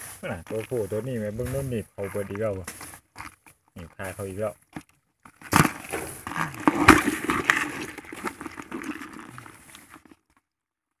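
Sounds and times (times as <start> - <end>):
crabs scraping and clicking: 0.2 - 10.6.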